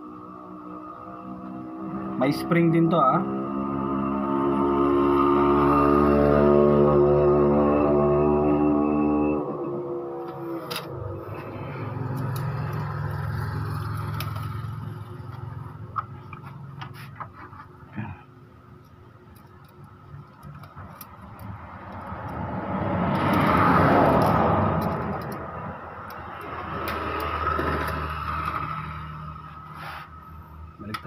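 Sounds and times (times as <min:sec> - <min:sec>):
passing vehicle engines: 0:00.0 - 0:18.4, 0:19.6 - 0:31.0.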